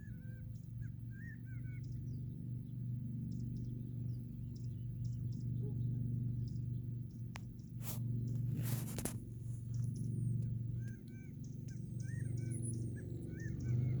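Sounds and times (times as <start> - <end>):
high ticking bird calls: 0.0 - 8.5, 9.2 - 14.0
small birds chirping: 0.0 - 14.0.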